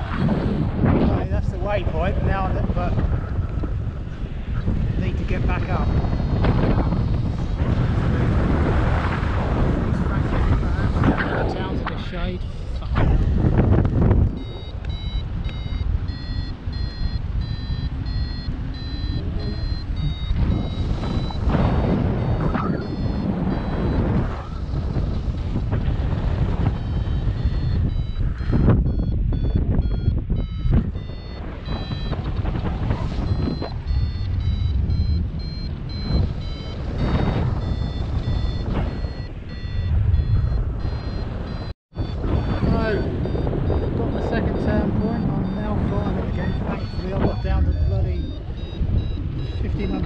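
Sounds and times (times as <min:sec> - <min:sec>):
wind rumbling on microphone: 0:00.0 - 0:50.0
variometer beeping: 0:01.1 - 0:50.0.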